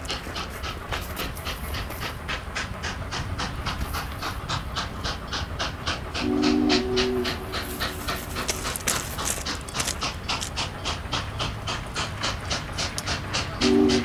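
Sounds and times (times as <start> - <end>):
steam locomotive panting: 0.0 - 14.0.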